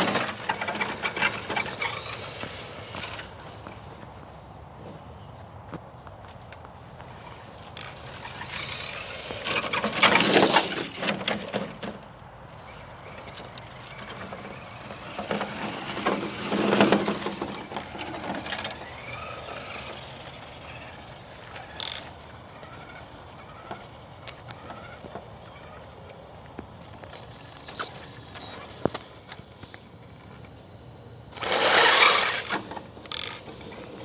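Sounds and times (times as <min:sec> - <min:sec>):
toy truck tyre and drivetrain crackling: 0:00.0 - 0:04.3, 0:05.7 - 0:34.0.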